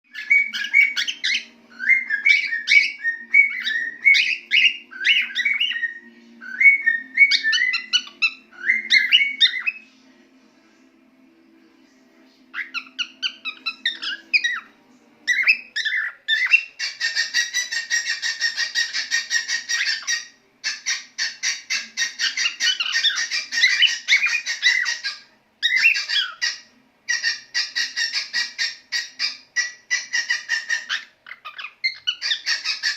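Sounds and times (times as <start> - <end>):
cockatiel singing: 0.1 - 9.9, 12.5 - 32.9.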